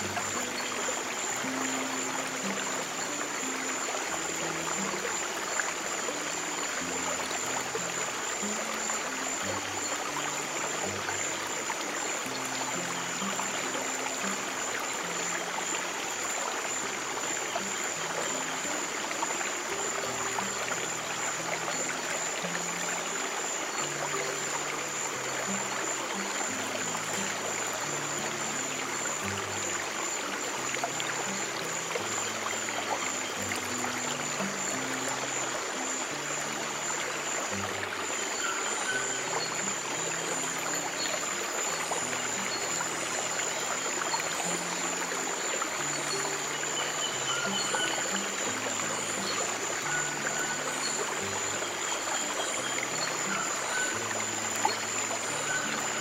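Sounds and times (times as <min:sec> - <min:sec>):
stream rushing and trickling: 0:00.0 - 0:56.0.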